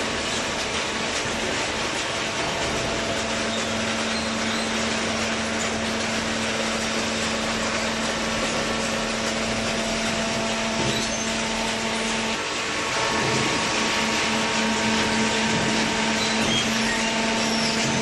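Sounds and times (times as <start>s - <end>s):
baler machine humming: 0.0s - 18.0s.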